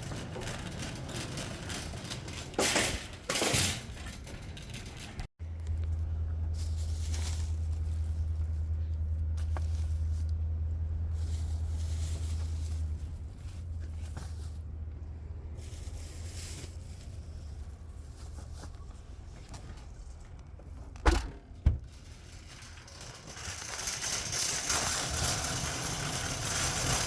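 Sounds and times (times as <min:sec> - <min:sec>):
car engine and road rumble: 0:03.2 - 0:27.0.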